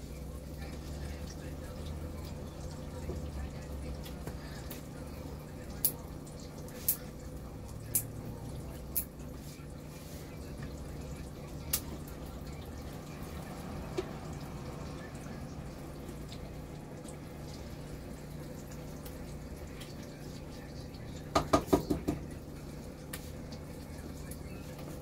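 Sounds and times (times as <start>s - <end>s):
low kitchen hum: 0.0s - 25.0s.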